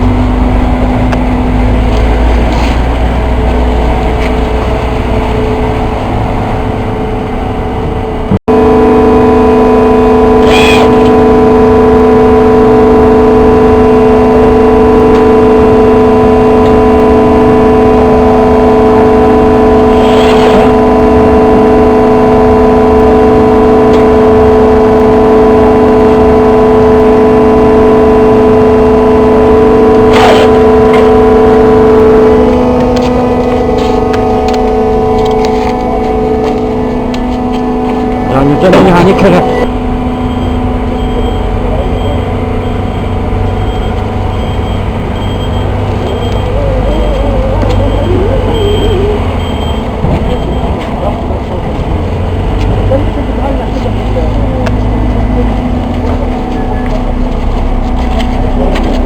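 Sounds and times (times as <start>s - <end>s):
baler motor humming: 0.0s - 59.0s.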